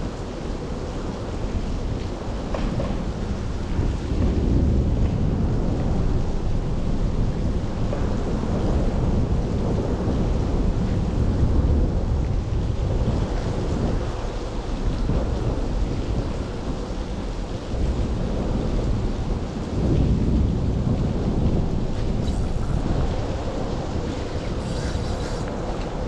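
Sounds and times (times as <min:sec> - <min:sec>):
deep continuous rumble: 0:00.0 - 0:26.0
heavy rain falling: 0:00.0 - 0:26.0.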